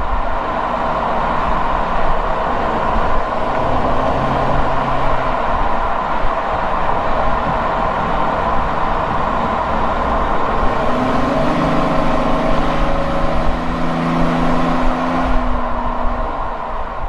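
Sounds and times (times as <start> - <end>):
car exhaust drone: 0.0 - 17.0
rushing noise of moving car: 0.0 - 17.0.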